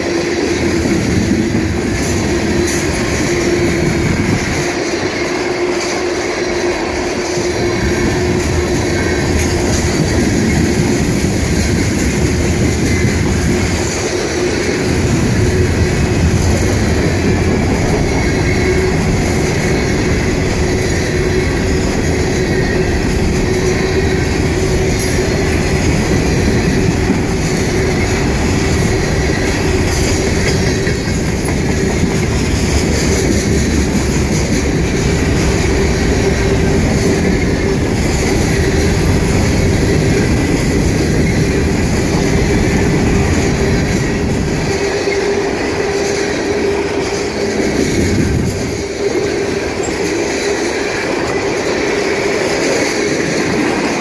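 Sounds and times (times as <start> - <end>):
steel wheels rattling on rails: 0.0 - 54.0.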